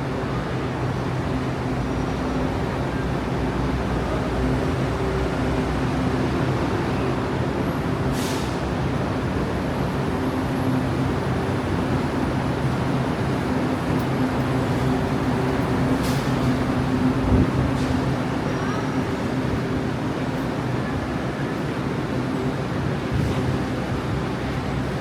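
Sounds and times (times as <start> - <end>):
train equipment humming: 0.2 - 23.0.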